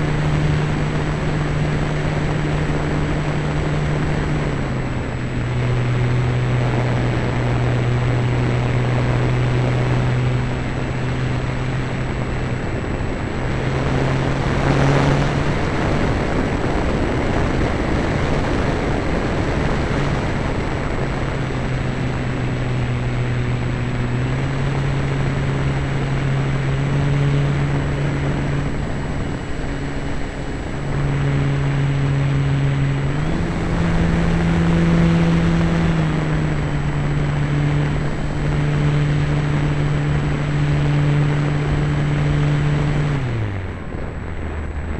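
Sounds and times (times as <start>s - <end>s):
model plane motor and propeller drone: 0.0s - 44.9s
wind noise rushing: 0.0s - 44.9s.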